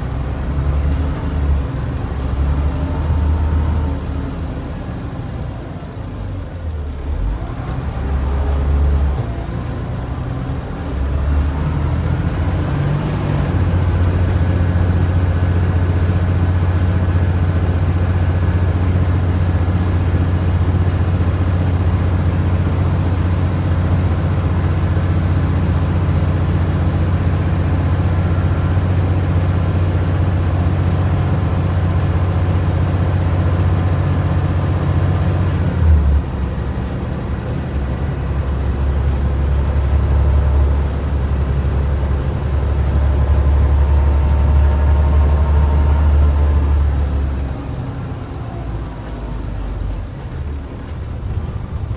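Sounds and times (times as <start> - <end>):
bus engine pulling under load: 0.0 - 51.9.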